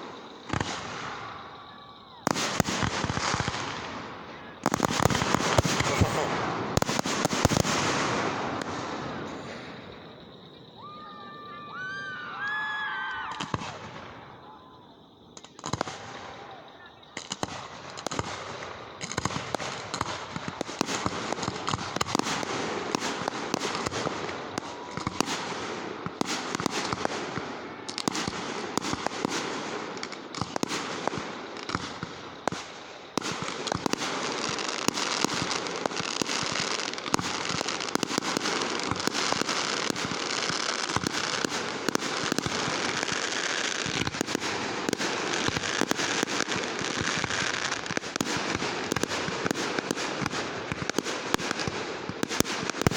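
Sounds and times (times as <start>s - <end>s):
fireworks crackling bangs: 0.0s - 52.9s.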